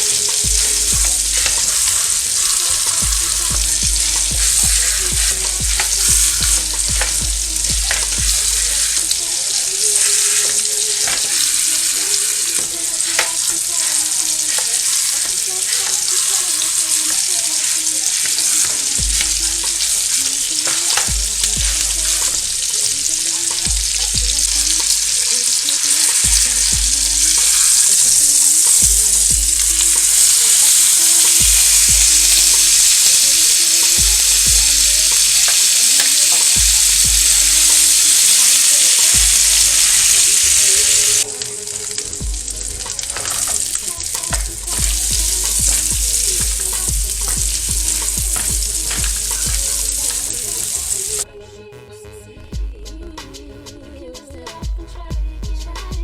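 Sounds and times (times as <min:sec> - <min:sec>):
food sizzling in a pan: 0:00.0 - 0:51.2
stirring clicks and scrapes: 0:00.0 - 0:51.2.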